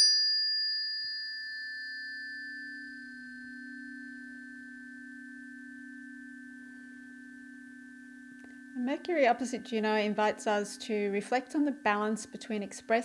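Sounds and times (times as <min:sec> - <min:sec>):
tuning forks ringing: 0:00.0 - 0:12.6.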